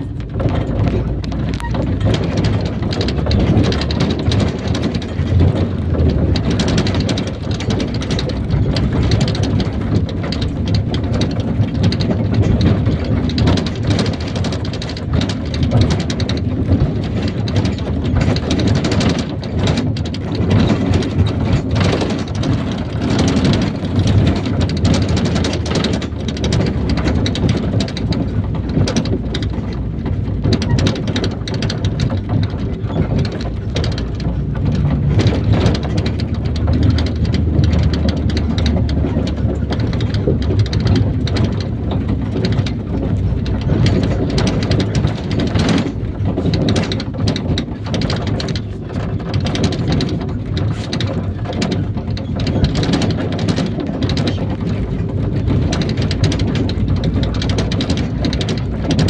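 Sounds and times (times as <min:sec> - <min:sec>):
body rattling and knocks: 0:00.0 - 0:59.0
engine and road rumble: 0:00.0 - 0:59.0.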